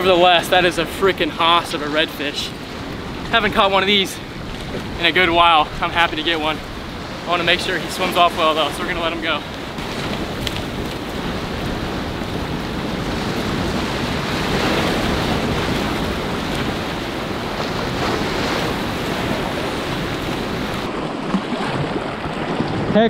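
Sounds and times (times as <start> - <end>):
surf washing against boulders: 0.0 - 23.0
wind on microphone: 0.0 - 23.0.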